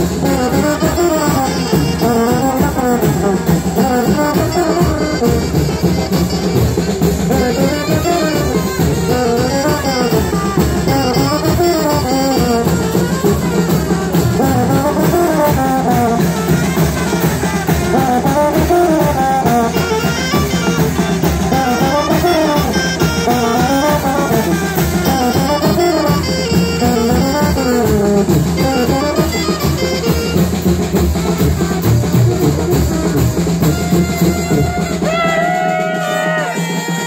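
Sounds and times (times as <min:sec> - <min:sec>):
bass drum beat: 0:00.0 - 0:37.0
brass band playing: 0:00.0 - 0:37.0
cymbals: 0:00.0 - 0:37.0.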